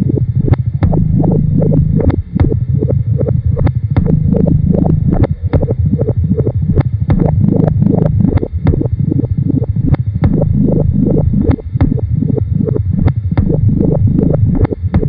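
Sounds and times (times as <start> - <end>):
loud low rumble: 0.0 - 15.0
sharp irregular clicks: 0.4 - 15.0.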